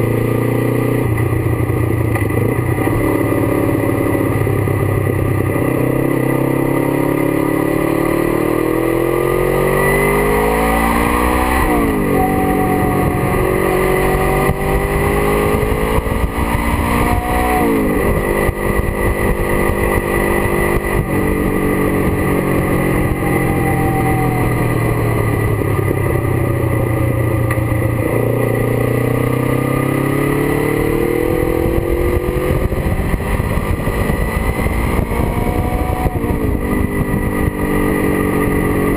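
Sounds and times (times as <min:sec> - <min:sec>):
motorcycle engine revving and shifting: 0:00.0 - 0:38.9.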